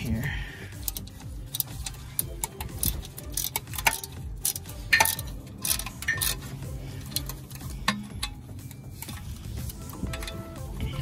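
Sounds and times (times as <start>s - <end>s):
ratchet wrench clicking: 0.6s - 11.0s.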